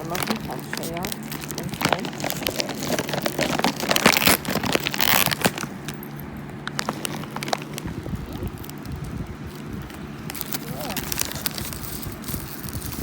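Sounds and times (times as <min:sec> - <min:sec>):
wrapper crinkling: 0:00.0 - 0:13.0.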